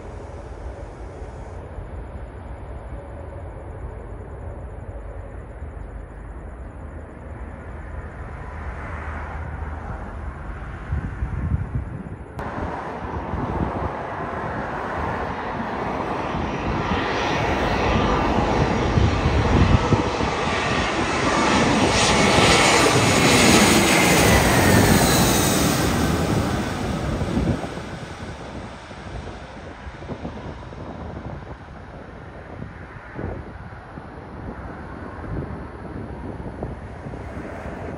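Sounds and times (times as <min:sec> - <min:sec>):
distant jet rumble: 0:00.0 - 0:37.9
jet airliner rumble: 0:00.0 - 0:37.9.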